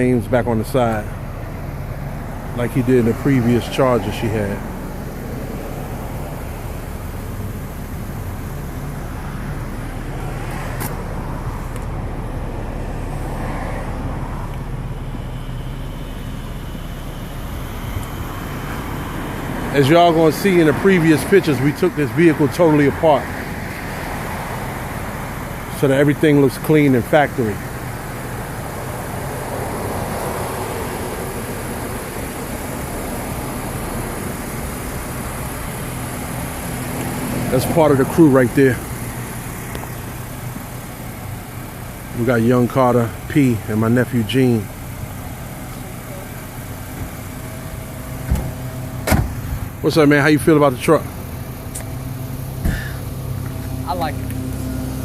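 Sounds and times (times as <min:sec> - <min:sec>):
motor vehicle hum: 0:00.0 - 0:55.0
outdoor background noise: 0:00.0 - 0:55.0
road noise: 0:00.0 - 0:55.0.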